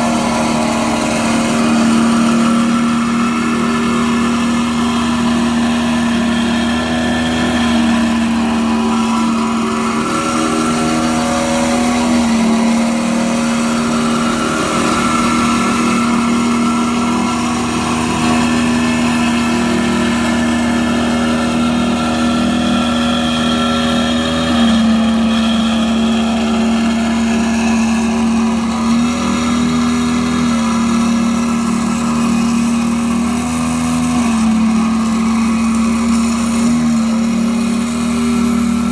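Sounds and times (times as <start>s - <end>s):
roller engine running: 0.0s - 38.9s.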